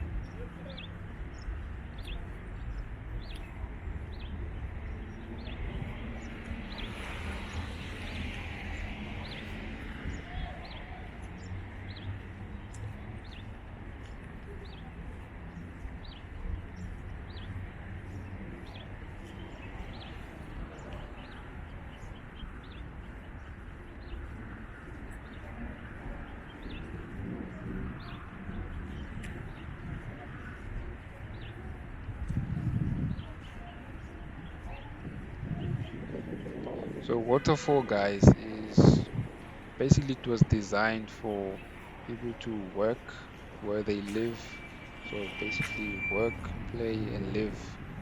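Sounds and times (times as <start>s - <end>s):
small birds chirping: 0.0s - 47.8s.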